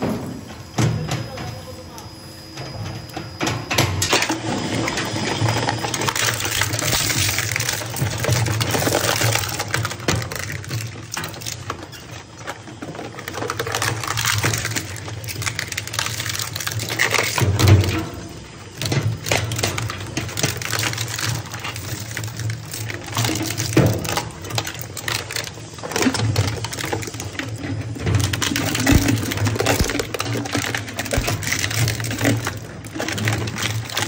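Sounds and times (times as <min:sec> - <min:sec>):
plastic shredder crunching plastic: 0:03.5 - 0:34.0.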